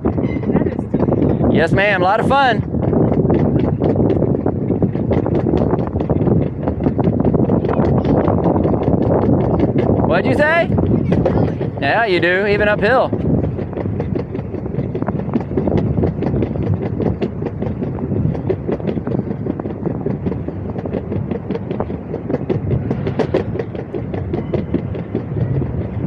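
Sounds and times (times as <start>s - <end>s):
train wheels clacking: 0.0s - 26.0s
train wheels rumbling: 0.0s - 26.0s.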